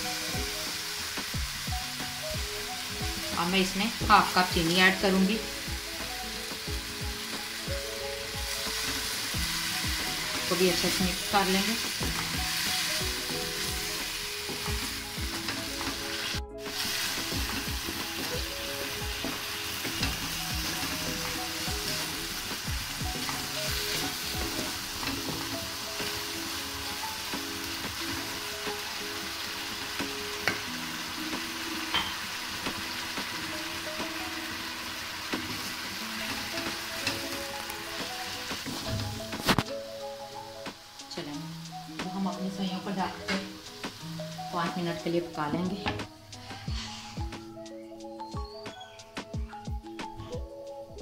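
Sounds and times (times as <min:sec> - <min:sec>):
food sizzling in pan: 0:00.0 - 0:47.8.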